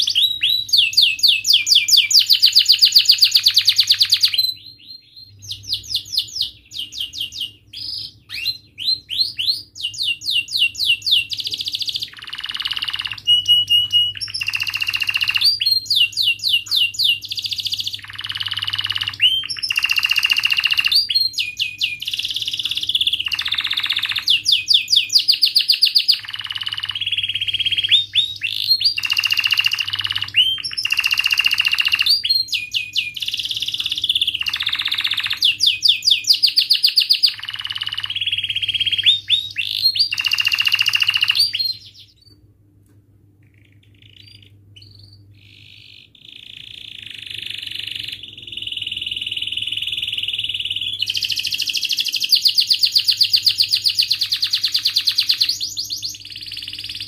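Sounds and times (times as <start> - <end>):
canary singing trills: 0.0 - 42.4, 43.4 - 57.0.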